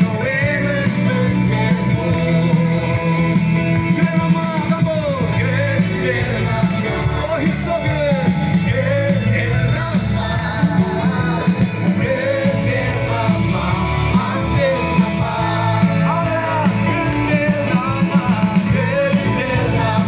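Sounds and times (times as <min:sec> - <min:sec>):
bass line: 0:00.0 - 0:20.0
electric and acoustic guitars: 0:00.0 - 0:20.0
people singing amplified: 0:00.0 - 0:20.0.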